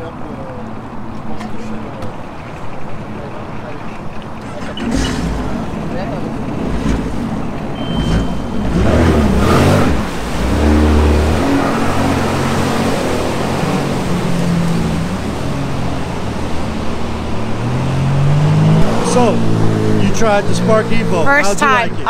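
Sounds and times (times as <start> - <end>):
jet ski engines running hard: 0.0 - 22.0.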